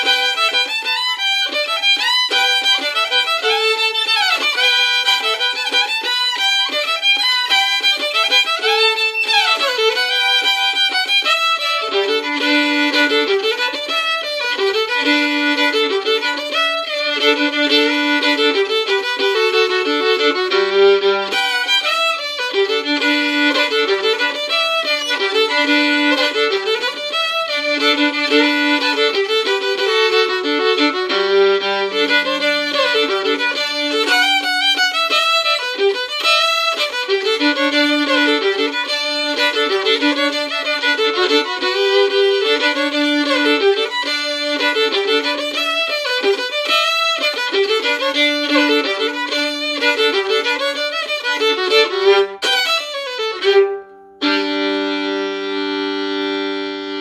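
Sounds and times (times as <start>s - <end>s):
solo fiddle playing: 0.0s - 57.0s.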